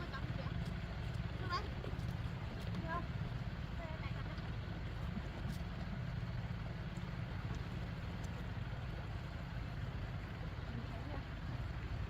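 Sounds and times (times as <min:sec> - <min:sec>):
small engine humming: 0:00.0 - 0:12.0.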